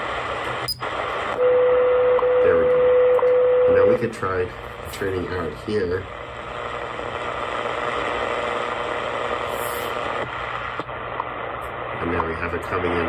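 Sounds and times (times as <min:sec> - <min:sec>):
radio click: 0:00.0 - 0:01.5, 0:02.1 - 0:03.4, 0:04.8 - 0:13.0
shortwave radio static hiss: 0:00.0 - 0:13.0.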